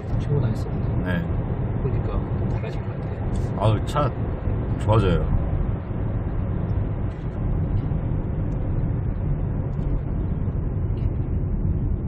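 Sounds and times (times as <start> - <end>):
in-cabin road and engine noise: 0.0 - 12.0.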